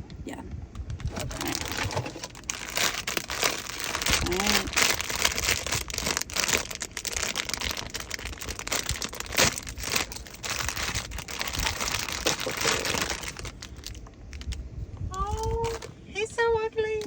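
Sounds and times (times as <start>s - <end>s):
plastic packaging crinkling: 1.0s - 14.6s, 15.2s - 15.9s.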